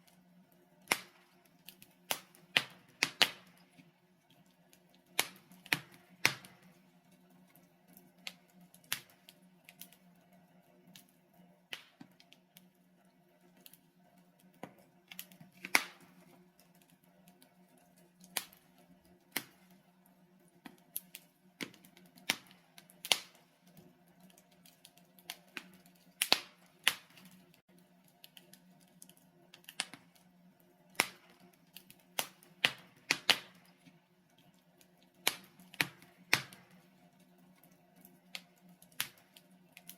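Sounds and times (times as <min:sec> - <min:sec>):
burning logs crackling and popping: 0:00.0 - 0:39.9.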